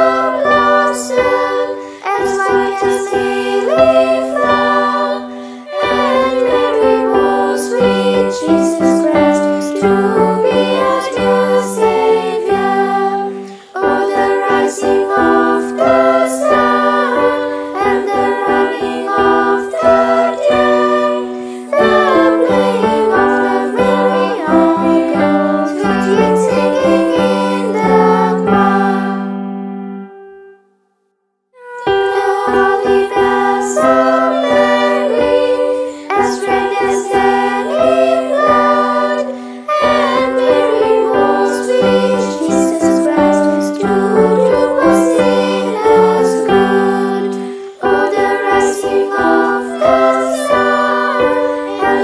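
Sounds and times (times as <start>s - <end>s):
girls' choir singing a carol: 0.0s - 29.7s, 31.6s - 52.0s
instrumental accompaniment: 2.6s - 30.7s, 31.6s - 52.0s.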